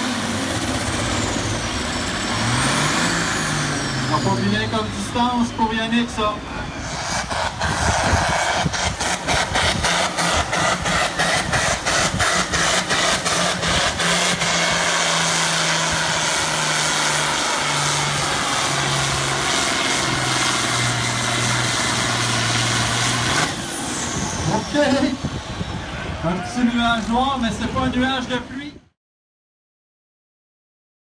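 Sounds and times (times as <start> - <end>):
diesel tractor engine at full throttle: 0.0 - 28.8.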